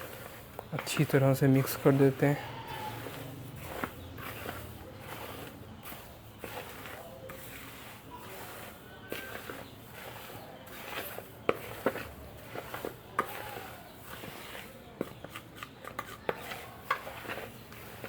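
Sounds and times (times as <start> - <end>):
dry feed clicking and rustling: 0.0 - 18.0.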